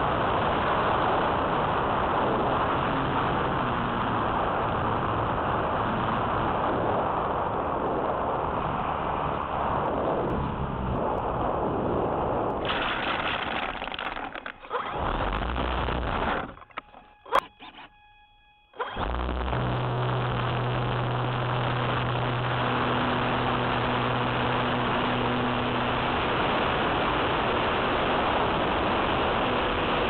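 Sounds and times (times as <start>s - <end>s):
electric motor and propeller: 0.0s - 18.0s, 18.7s - 30.0s.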